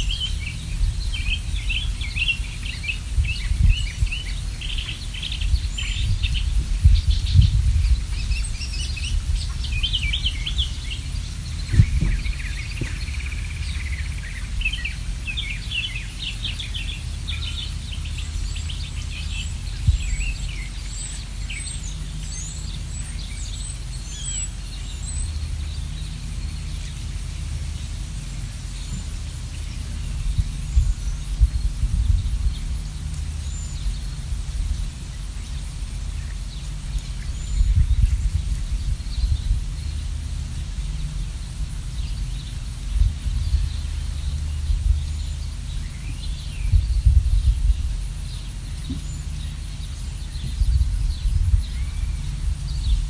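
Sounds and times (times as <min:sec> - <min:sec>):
low rumble: 0:00.0 - 0:53.0
songbirds chirping: 0:00.0 - 0:53.0.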